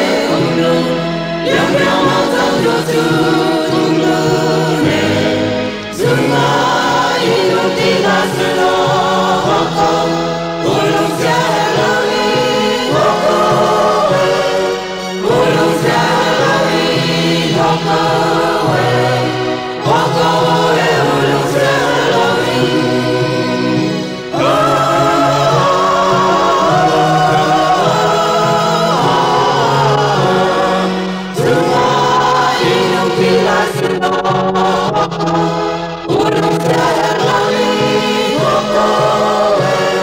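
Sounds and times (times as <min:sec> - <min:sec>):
group of voices singing: 0:00.0 - 0:40.0.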